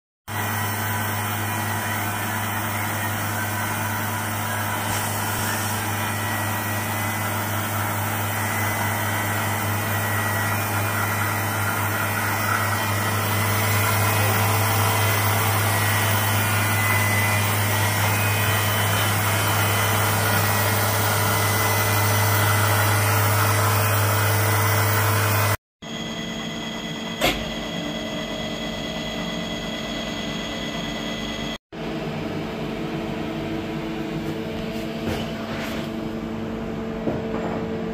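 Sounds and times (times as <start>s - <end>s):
machine hum with low drone: 0.3s - 37.9s.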